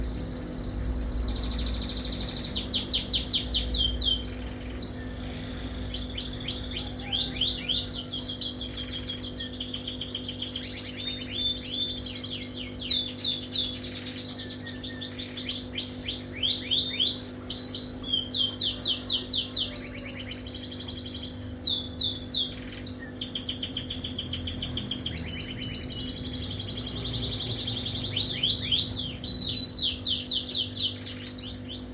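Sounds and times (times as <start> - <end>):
canary singing trills: 0.0 - 31.9
steady low hum: 0.0 - 31.9.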